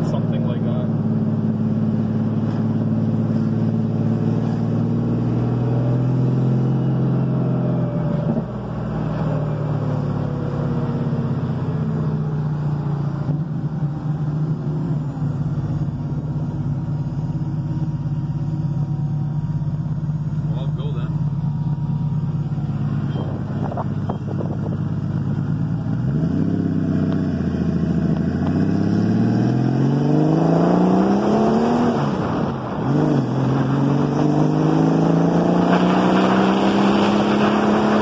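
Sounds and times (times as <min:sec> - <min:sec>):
car engine drone in cabin: 0:00.0 - 0:38.0.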